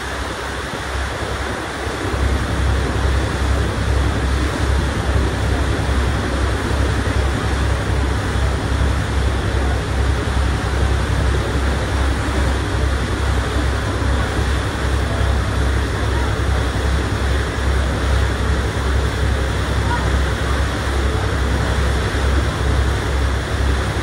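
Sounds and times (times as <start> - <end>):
ferry engine rumble: 0.0 - 24.0
water rushing: 0.0 - 24.0.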